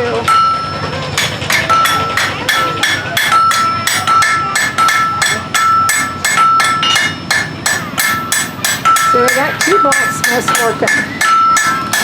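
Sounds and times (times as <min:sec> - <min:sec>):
anvil ringing: 0:00.3 - 0:12.0
hammer striking iron on anvil: 0:00.3 - 0:12.0.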